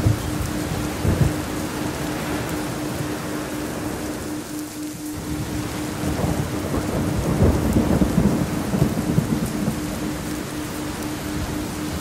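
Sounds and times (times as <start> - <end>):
steady rain: 0.0 - 12.0
thunder rumble: 0.0 - 12.0.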